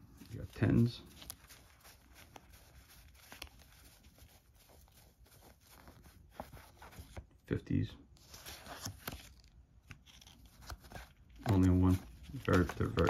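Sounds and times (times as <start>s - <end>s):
paper bills rustling and flicking: 0.0s - 13.0s.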